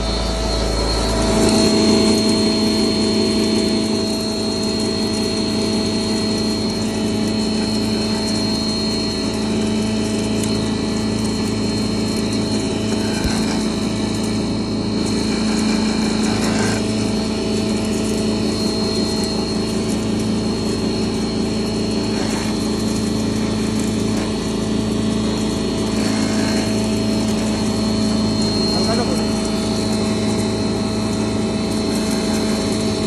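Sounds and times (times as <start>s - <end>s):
grinding machine hum: 0.0s - 33.0s
high machine whine: 0.0s - 33.0s.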